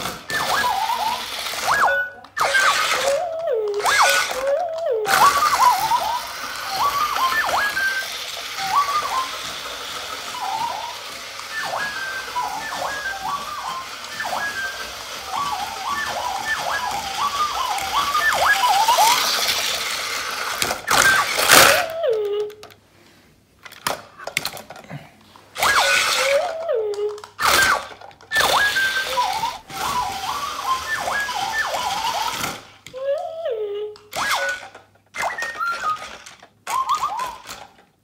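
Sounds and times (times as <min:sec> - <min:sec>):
electronic toy beeps and chirps: 0:00.3 - 0:22.6, 0:25.6 - 0:37.6.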